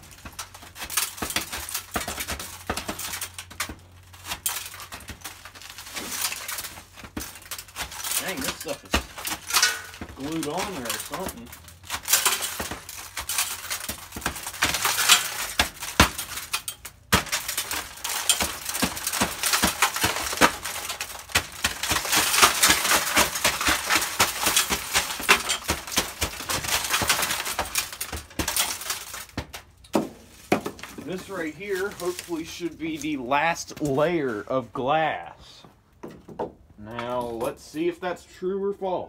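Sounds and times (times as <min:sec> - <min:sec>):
broken glass crunching and tinkling: 0:00.0 - 0:35.3.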